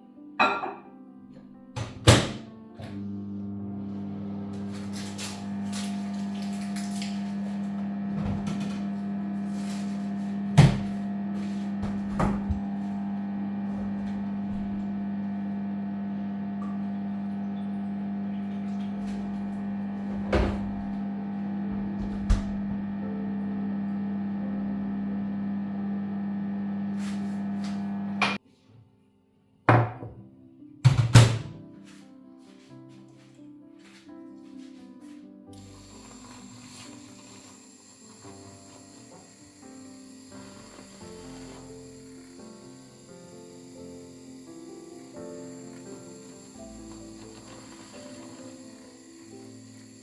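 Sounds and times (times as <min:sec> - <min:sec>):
appliance humming: 0:01.8 - 0:28.4, 0:35.6 - 0:50.0.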